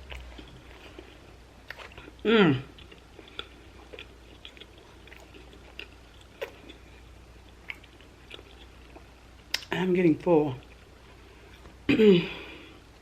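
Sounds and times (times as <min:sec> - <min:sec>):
person chewing food: 0:00.0 - 0:09.7, 0:10.5 - 0:12.9.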